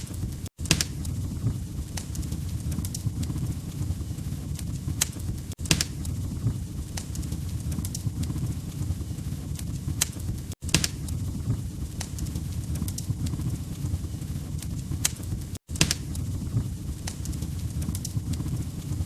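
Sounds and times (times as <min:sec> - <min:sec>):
burning logs popping: 0:00.0 - 0:19.0
low roar of flames: 0:00.0 - 0:19.0.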